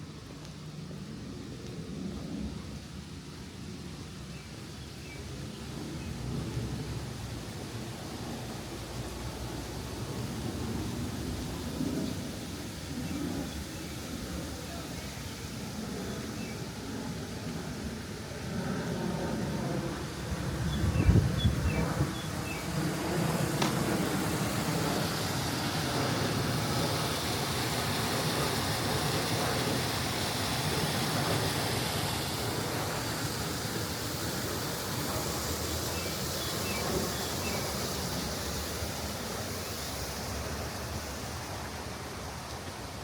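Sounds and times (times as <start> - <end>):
steady rushing outdoor noise: 0.0 - 43.0.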